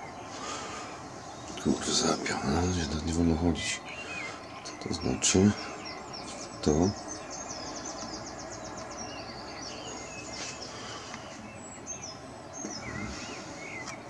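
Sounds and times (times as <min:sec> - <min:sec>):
birds singing: 0:00.0 - 0:14.0
outdoor background hiss: 0:00.0 - 0:14.0.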